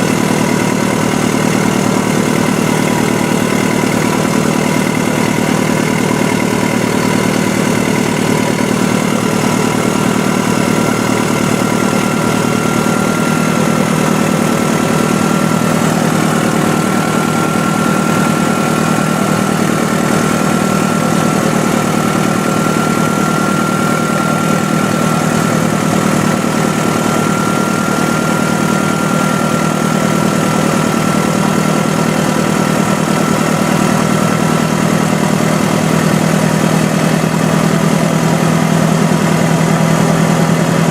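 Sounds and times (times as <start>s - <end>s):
heavy diesel machine engine: 0.0s - 40.9s.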